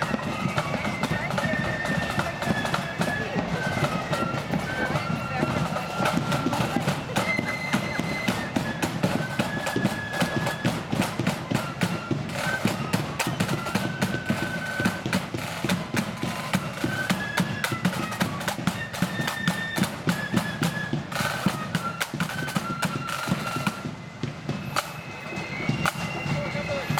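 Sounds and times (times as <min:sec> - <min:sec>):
flutes playing march melody: 0:00.0 - 0:26.9
snare and bass drum beats: 0:00.0 - 0:26.9.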